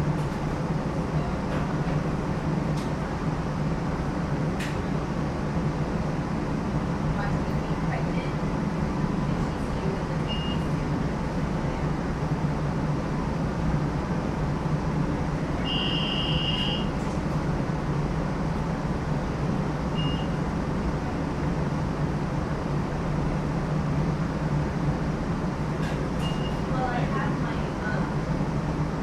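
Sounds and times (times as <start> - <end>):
streetcar rumbling on rails: 0.0 - 29.0.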